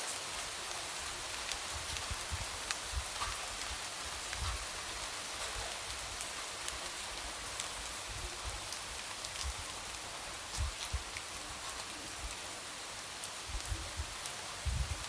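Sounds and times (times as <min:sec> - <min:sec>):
light rain on a window: 0:00.0 - 0:15.0.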